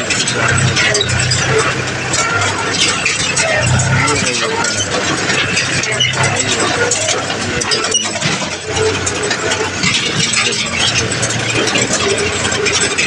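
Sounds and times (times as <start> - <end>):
clattering rattle: 0.0 - 13.0
tractor diesel engine: 0.0 - 13.0.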